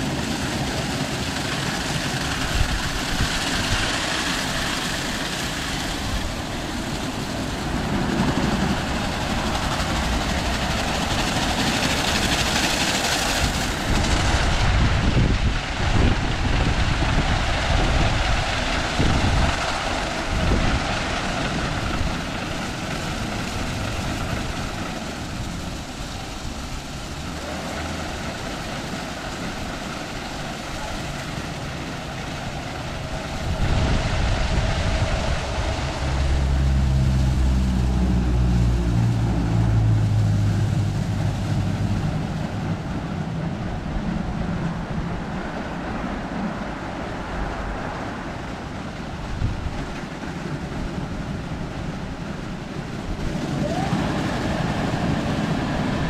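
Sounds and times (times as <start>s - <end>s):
car wash machine spraying: 0.0s - 56.0s
deep machine rumble: 0.0s - 56.0s.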